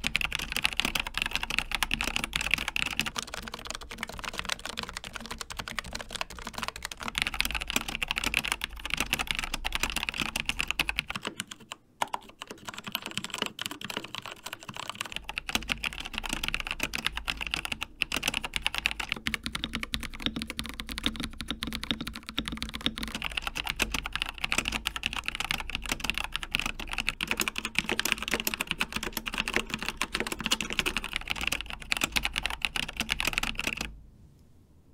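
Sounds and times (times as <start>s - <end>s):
fast typing on mechanical keyboards: 0.0s - 33.9s.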